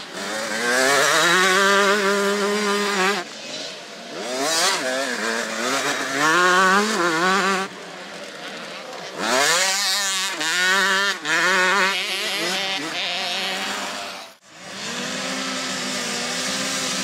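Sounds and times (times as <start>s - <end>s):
two-stroke motorbike engines revving: 0.0s - 17.0s.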